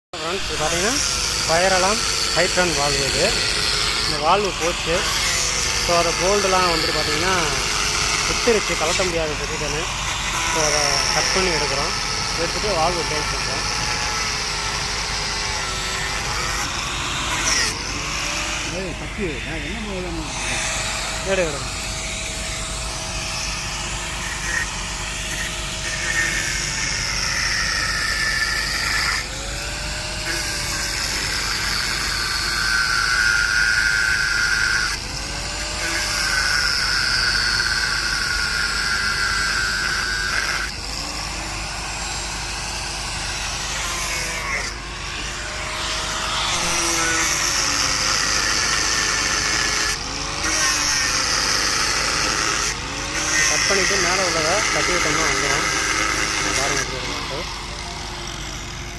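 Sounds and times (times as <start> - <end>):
angle grinder cutting metal: 0.2 - 58.9.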